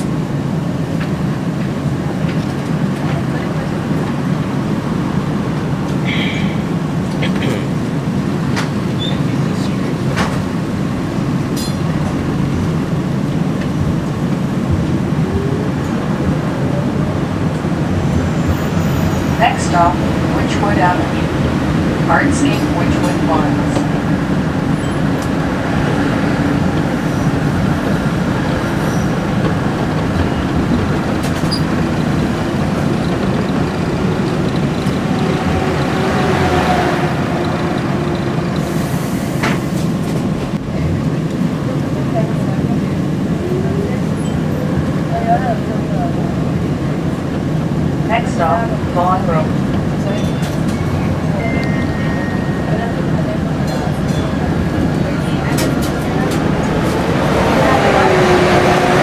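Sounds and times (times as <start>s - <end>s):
streetcar wheels rumbling: 0.0s - 59.0s.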